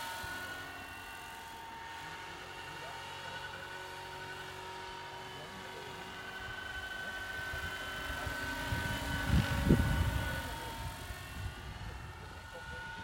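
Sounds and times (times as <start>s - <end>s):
model helicopter high whine: 0.0s - 13.0s.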